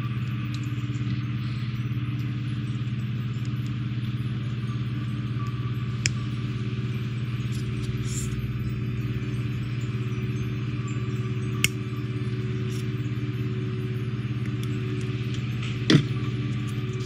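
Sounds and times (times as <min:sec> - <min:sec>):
airbrush compressor humming: 0:00.0 - 0:17.0.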